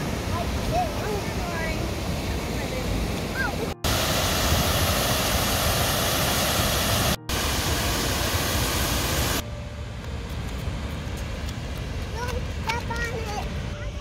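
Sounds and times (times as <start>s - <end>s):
loud steady rushing noise: 0.0s - 13.8s.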